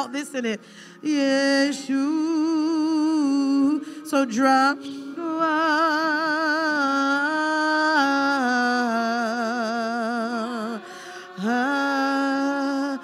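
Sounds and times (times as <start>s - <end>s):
woman singing slow worship melody: 0.0s - 13.0s.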